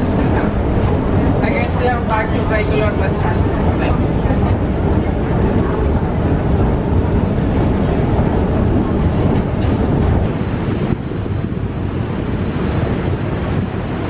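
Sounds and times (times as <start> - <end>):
metro station low rumble: 0.0 - 14.0.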